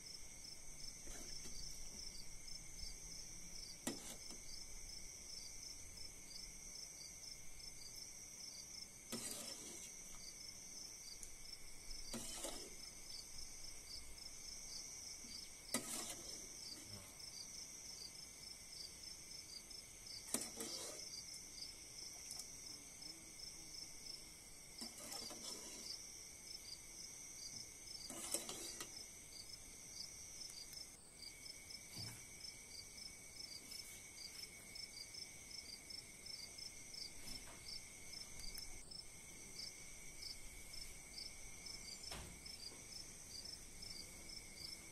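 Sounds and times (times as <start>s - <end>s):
insects chirring: 0.0s - 44.9s.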